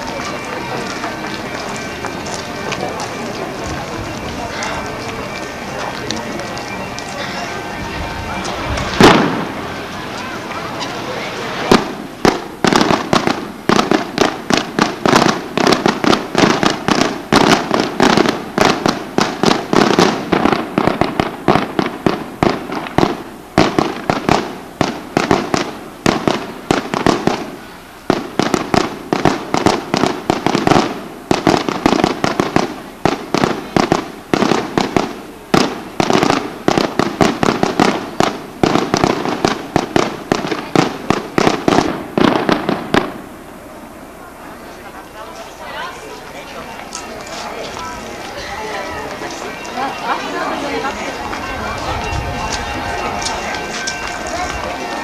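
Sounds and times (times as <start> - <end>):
firecrackers bursting: 0.0 - 55.0.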